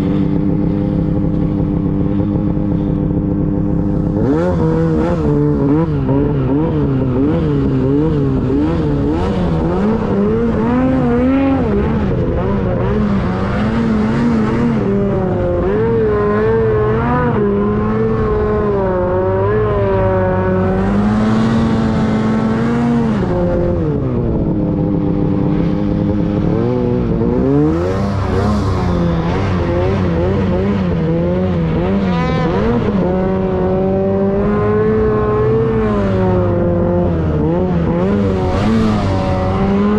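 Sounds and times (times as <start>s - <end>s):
snowmobile engine running hard: 0.0s - 39.9s.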